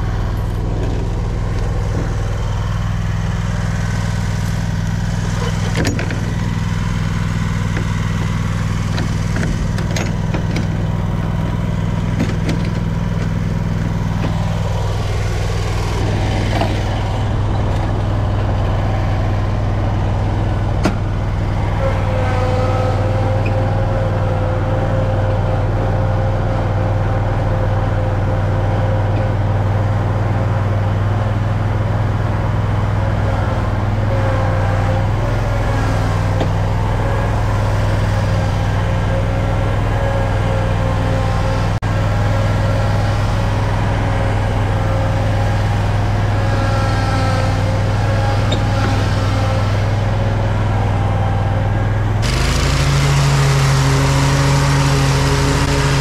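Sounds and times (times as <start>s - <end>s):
lawn mower engine cutting grass: 0.0s - 56.0s.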